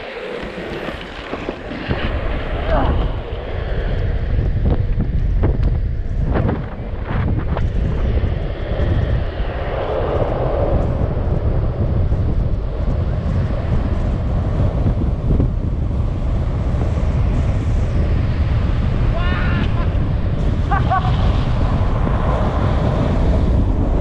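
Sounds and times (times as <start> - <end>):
wheels rolling on asphalt: 0.0 - 19.1, 19.7 - 24.0
wind roar on microphone: 0.0 - 24.0.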